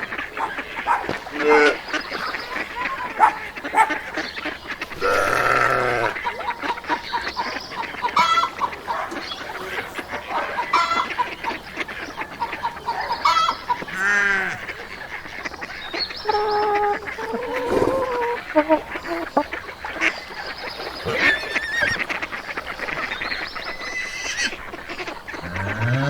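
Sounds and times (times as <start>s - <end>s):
geese honking: 0.0s - 26.0s
hens clucking: 0.0s - 26.0s.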